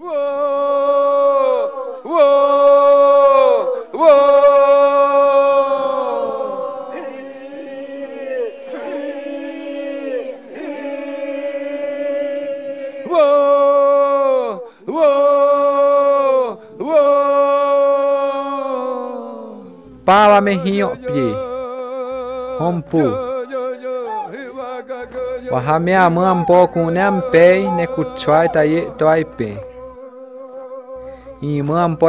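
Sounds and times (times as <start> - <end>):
person chanting: 0.0 - 32.0.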